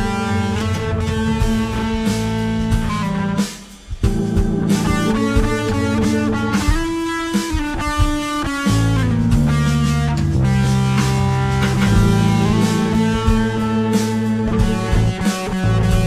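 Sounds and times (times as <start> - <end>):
guitar-led instrumental band: 0.0 - 16.0.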